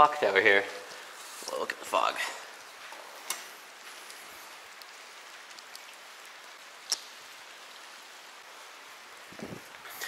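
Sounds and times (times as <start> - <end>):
light rain hissing: 0.0 - 10.0.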